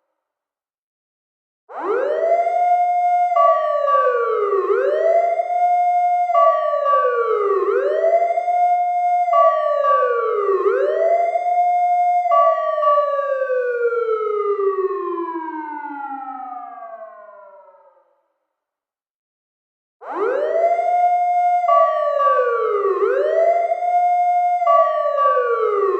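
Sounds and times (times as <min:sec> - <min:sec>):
fire truck siren wailing: 0:01.7 - 0:17.9, 0:20.0 - 0:25.9.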